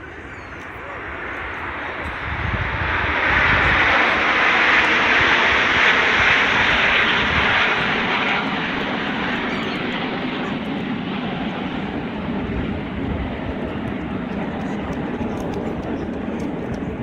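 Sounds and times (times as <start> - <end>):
airplane engine rush: 0.0 - 17.0.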